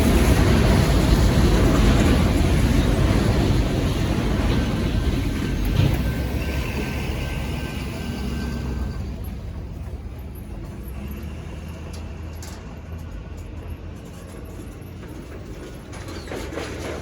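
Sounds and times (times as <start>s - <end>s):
freight train rumbling and rattling: 0.0s - 17.0s.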